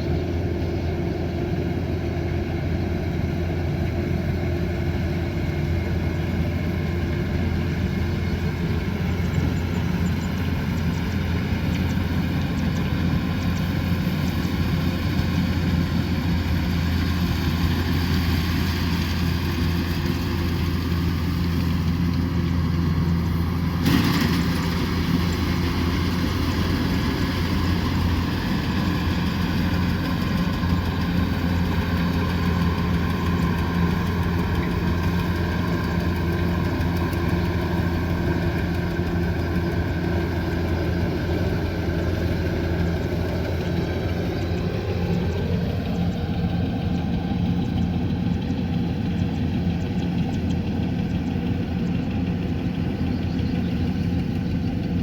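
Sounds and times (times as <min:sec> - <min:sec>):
combine harvester humming: 0:00.0 - 0:55.0.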